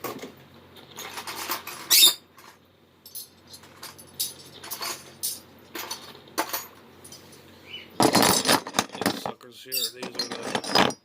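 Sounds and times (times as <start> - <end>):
metal tools clinking: 0.9 - 7.4, 8.0 - 11.0.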